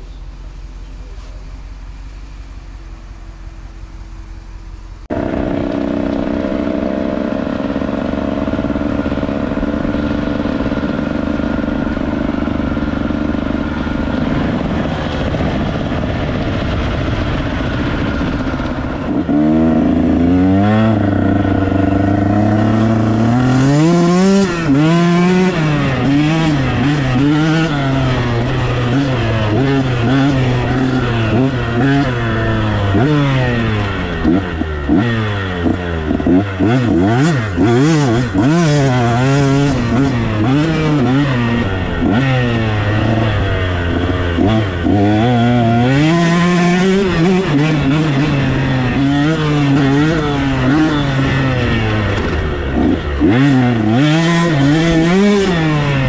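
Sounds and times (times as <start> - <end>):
dirt bike engine revving: 5.0 - 56.0.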